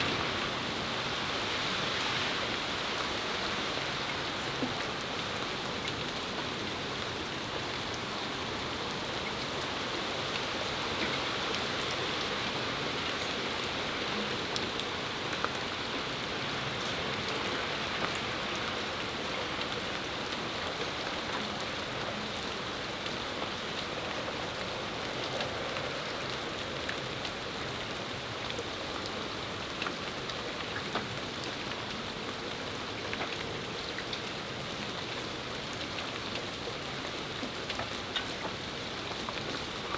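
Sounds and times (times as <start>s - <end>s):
rain falling on a patio: 0.0s - 39.9s.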